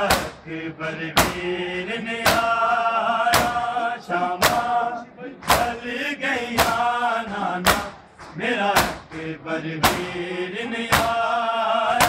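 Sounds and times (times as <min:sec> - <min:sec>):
crowd slapping chests: 0:00.0 - 0:12.0
men chanting in unison: 0:00.0 - 0:12.0.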